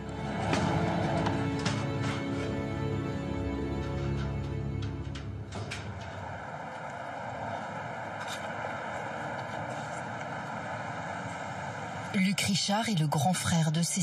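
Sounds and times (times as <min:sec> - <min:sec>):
distant engine drone: 0:00.0 - 0:14.0.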